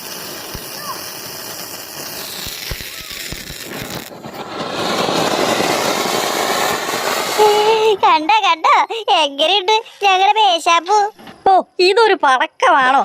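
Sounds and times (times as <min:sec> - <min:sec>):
hissing spray of sparks: 0:00.0 - 0:11.2
firework crackles: 0:00.0 - 0:11.5.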